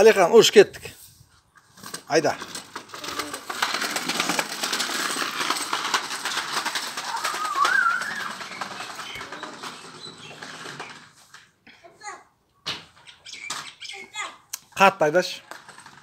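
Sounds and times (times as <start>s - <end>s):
scooter wheels rattling on concrete: 0.0s - 16.0s.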